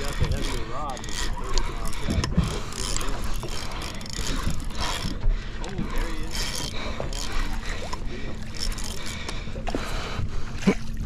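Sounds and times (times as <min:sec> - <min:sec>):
fishing reel clicking: 0:00.0 - 0:09.4.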